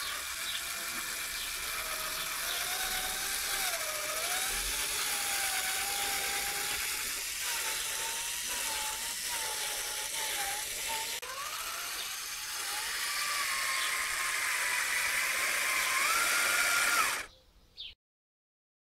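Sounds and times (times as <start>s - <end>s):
toy tractor motor whining: 0.0s - 17.3s.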